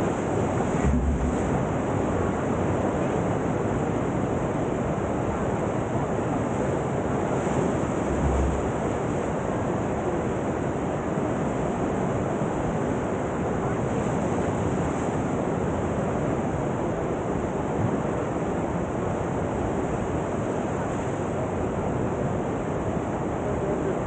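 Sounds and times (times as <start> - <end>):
rushing whitewater roar: 0.0 - 24.0.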